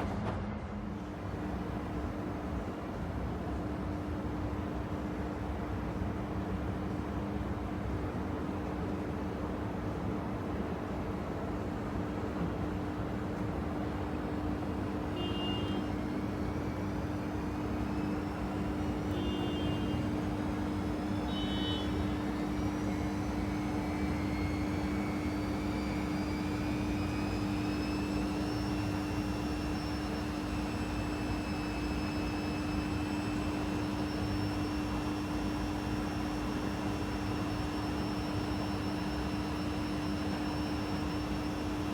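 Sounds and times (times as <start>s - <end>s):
washing machine motor whine: 1.0s - 41.9s.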